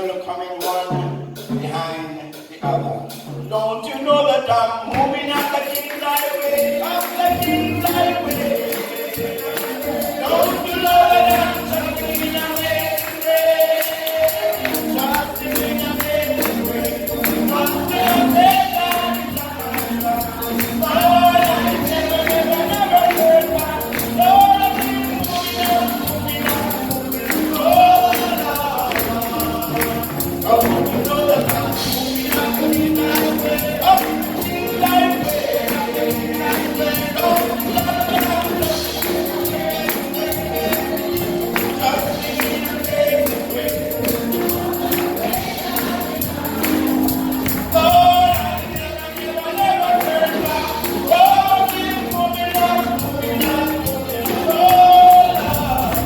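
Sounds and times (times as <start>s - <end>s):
congregation singing gospel: 0.0s - 56.0s
tambourine: 5.0s - 56.0s.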